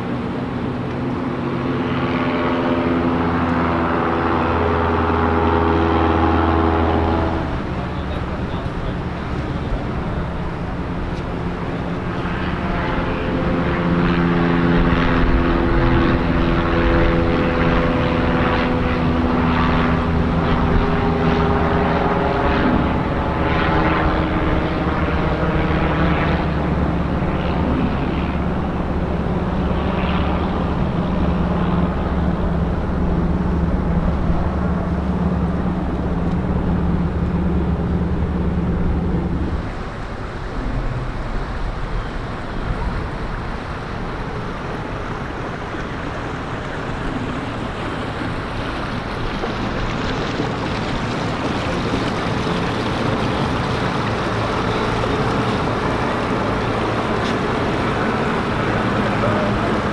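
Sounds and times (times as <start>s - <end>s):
passing engine droning: 0.0s - 59.9s.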